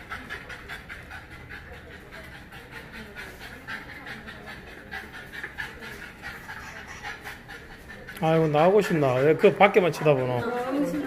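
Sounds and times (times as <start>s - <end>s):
dog panting rapidly: 0.0s - 11.0s.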